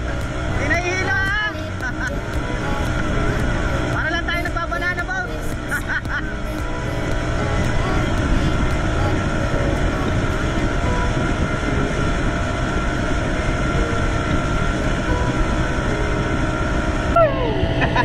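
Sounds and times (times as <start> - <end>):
rushing water: 0.0 - 17.6
speedboat motor running: 0.0 - 18.0
wind noise: 0.0 - 18.0.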